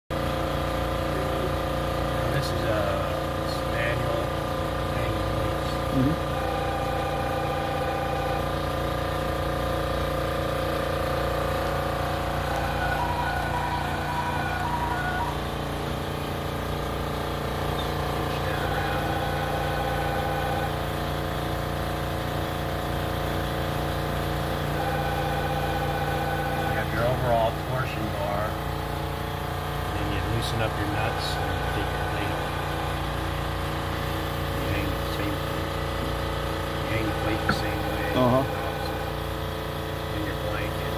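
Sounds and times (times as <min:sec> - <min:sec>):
printing press hum: 0:00.1 - 0:40.9.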